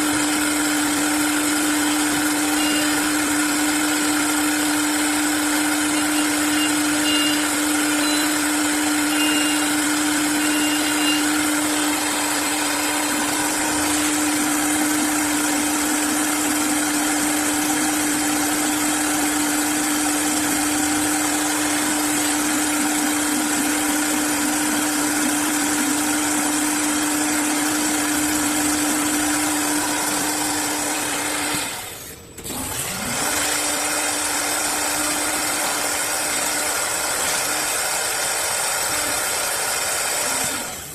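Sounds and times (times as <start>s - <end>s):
wood cutting noise: 0.0s - 40.9s
wood lathe motor hum: 0.0s - 40.9s.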